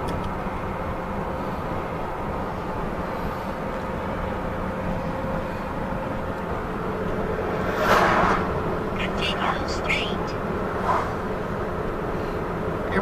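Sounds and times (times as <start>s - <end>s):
car road and engine noise: 0.0s - 13.0s
faint steady hum: 0.0s - 13.0s.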